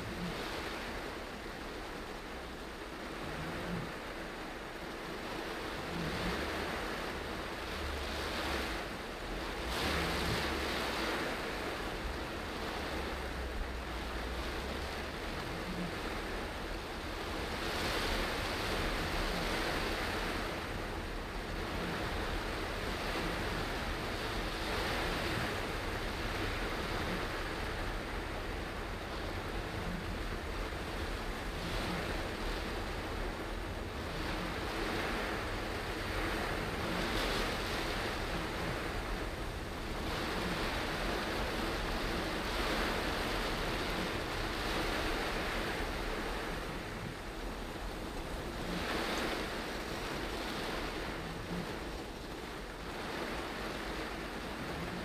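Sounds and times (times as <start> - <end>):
heavy rain on a car: 0.0 - 55.0.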